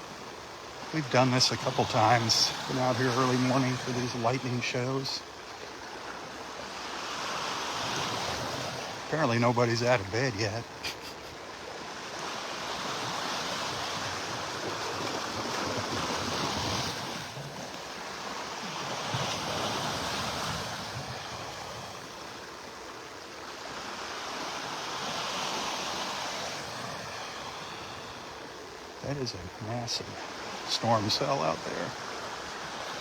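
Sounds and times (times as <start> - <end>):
small waves breaking on beach: 0.0 - 33.0.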